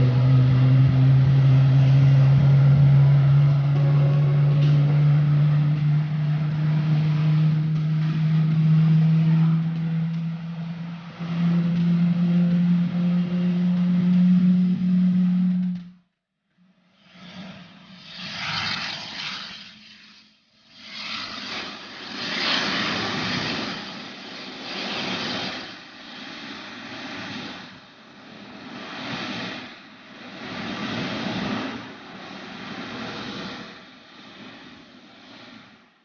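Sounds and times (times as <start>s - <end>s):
jet aircraft engines rushing: 0.0s - 16.0s, 17.0s - 36.0s.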